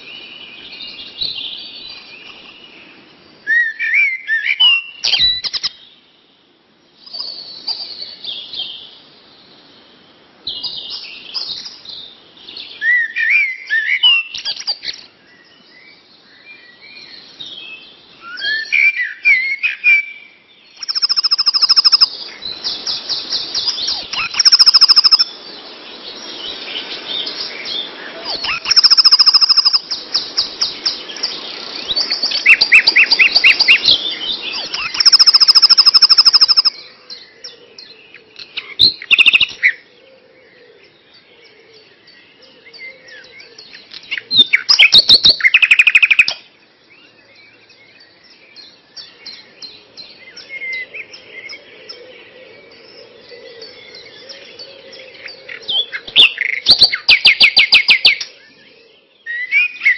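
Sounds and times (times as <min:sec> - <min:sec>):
birds singing: 0:00.0 - 0:59.9.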